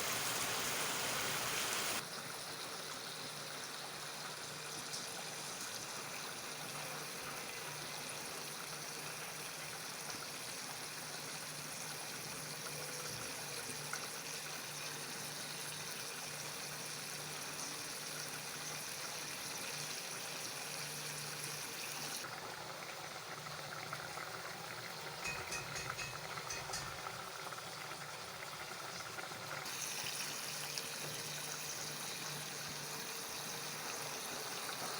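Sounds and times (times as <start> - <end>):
curry hissing and bubbling in pan: 0.0 - 34.9.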